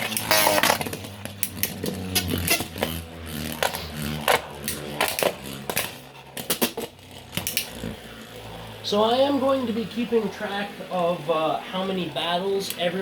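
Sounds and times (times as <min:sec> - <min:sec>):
whirring hum of spinning tops: 0:00.0 - 0:13.0.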